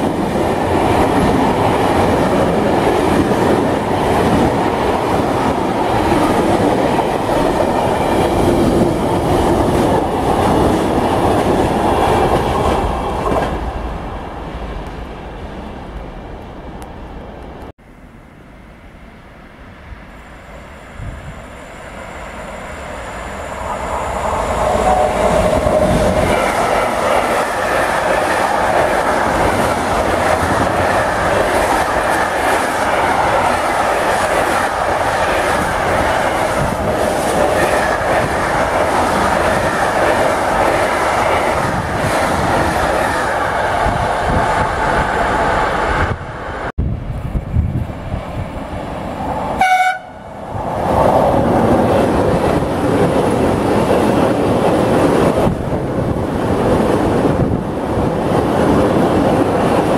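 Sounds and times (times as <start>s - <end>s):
freight train wheels on rails: 0.0s - 17.8s, 18.7s - 59.9s.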